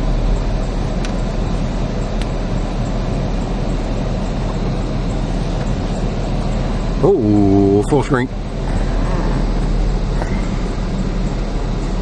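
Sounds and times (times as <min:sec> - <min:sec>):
air conditioning blower rush: 0:00.0 - 0:12.0
engine idling rumble: 0:00.0 - 0:12.0.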